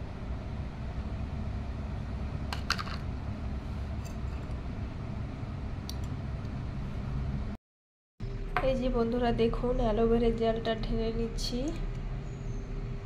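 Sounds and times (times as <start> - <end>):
low background hum: 0.0 - 7.6, 8.2 - 13.0.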